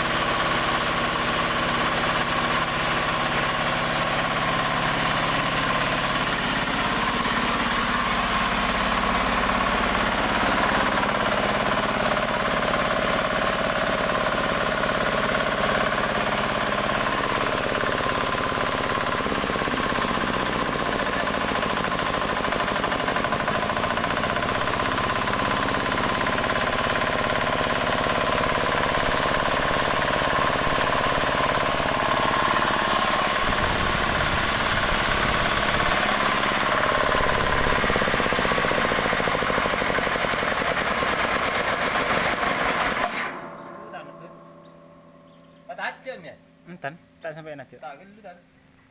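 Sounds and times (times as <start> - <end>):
diesel engine running: 0.0 - 45.3.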